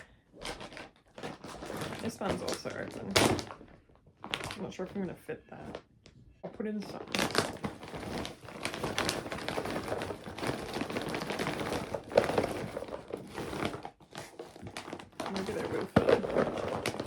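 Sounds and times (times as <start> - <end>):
plastic packets crinkling: 0.0 - 4.6, 6.8 - 17.0.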